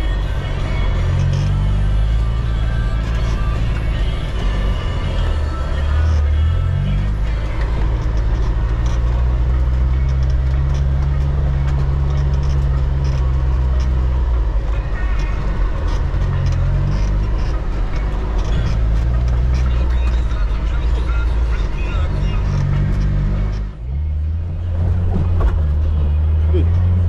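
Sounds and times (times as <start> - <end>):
engine running at low revs: 0.0 - 27.0.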